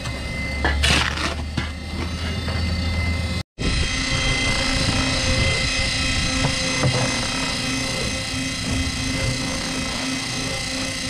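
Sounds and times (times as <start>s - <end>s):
concrete mixer humming: 0.0s - 11.0s.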